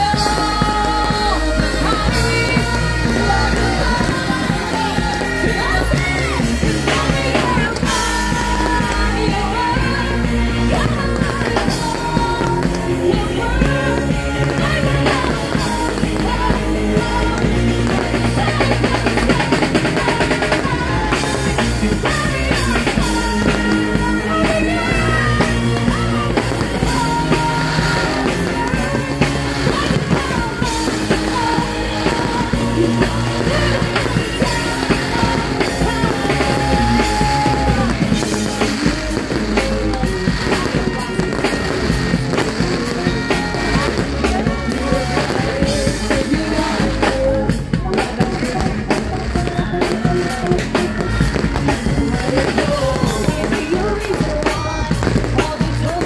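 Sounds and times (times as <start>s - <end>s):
fireworks crackling and popping: 0.0s - 56.0s
music with singing and drums: 0.0s - 56.0s.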